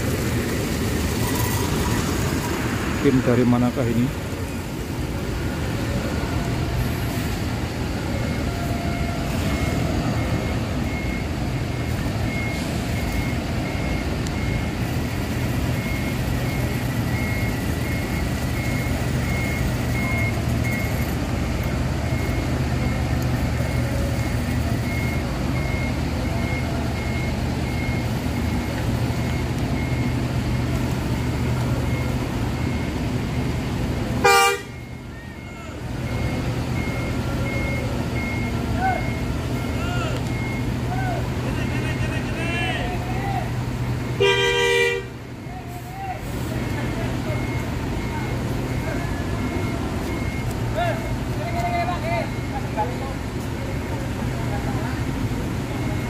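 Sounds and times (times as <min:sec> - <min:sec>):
diesel bus engine running: 0:00.0 - 0:56.0
reversing beeper: 0:00.0 - 0:56.0.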